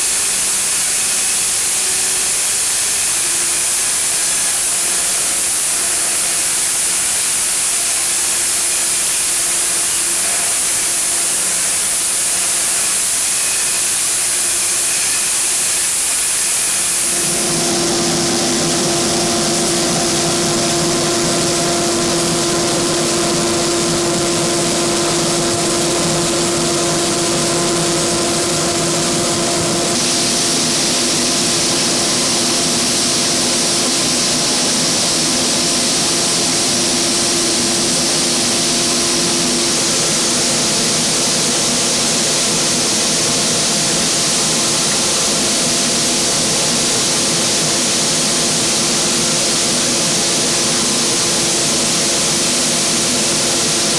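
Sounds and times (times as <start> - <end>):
sanding machine humming and hissing: 0.1 - 53.9.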